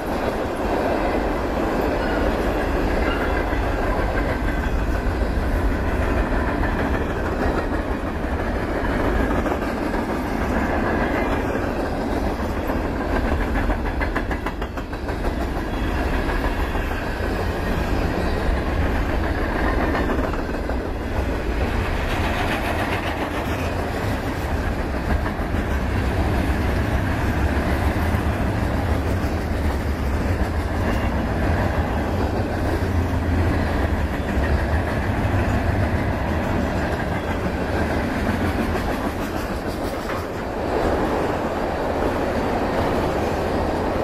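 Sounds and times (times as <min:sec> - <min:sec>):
freight train wheels rumbling on rails: 0:00.0 - 0:44.0
rapid clickety-clack of wheels: 0:00.0 - 0:44.0.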